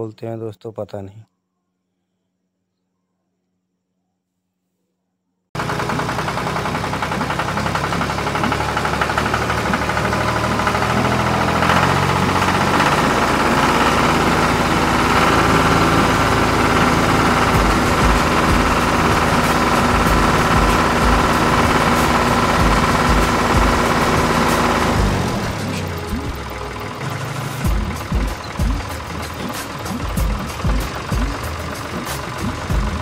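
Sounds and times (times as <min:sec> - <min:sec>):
tractor diesel engine running: 0:05.6 - 0:33.0.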